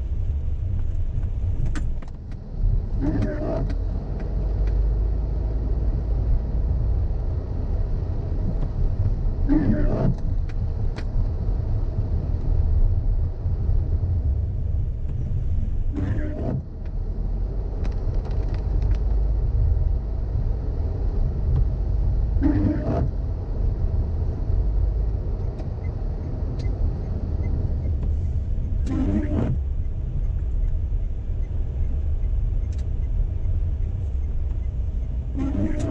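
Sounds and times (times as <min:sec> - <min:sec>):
low rumble inside car cabin: 0:00.0 - 0:35.9
windscreen wipers swishing: 0:00.0 - 0:35.9.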